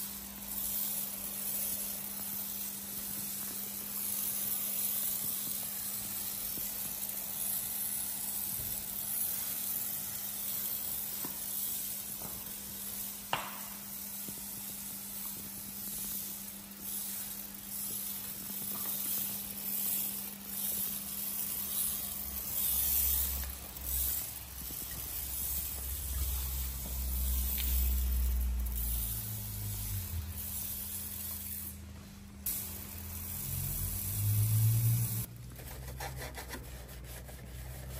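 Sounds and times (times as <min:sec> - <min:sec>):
pressure sprayer hissing: 0:00.0 - 0:35.3.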